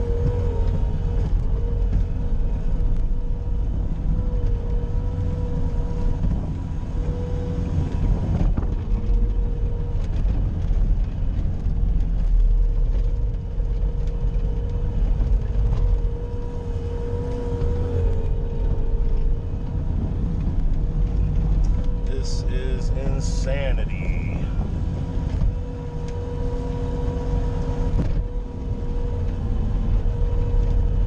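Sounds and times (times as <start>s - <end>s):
loader engine drone: 0.0s - 31.0s
steady whine: 0.0s - 31.0s.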